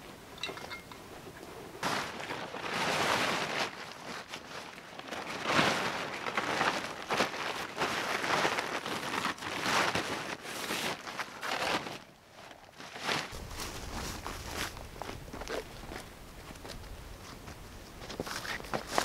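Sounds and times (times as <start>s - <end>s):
tarpaulin rustling and crinkling: 0.0s - 19.0s.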